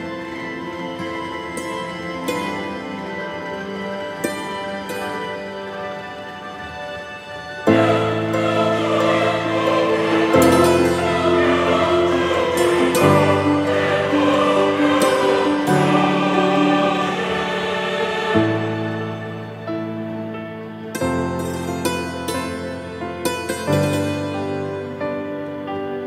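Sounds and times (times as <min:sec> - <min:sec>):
slow music of sustained chords: 0:00.0 - 0:26.0.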